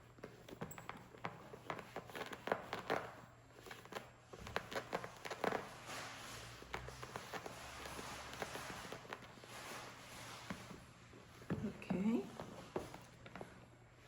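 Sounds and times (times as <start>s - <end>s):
hands rubbing leather: 0.0s - 11.5s.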